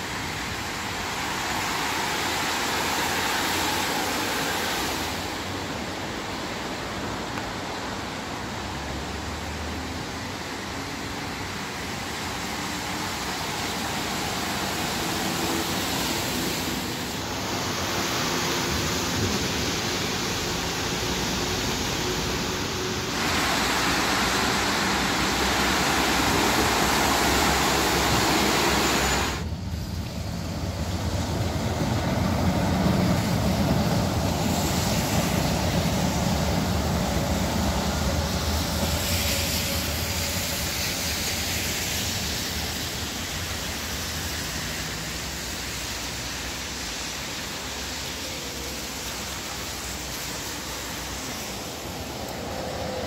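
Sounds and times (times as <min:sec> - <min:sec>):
rain hissing: 0:00.0 - 0:53.0
tyres on wet road: 0:00.0 - 0:53.0
vehicles passing: 0:00.0 - 0:53.0.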